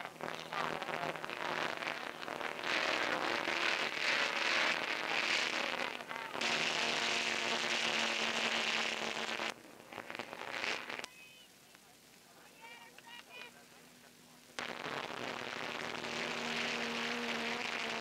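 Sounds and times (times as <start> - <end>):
film soundtrack hiss and crackle: 0.0 - 18.0.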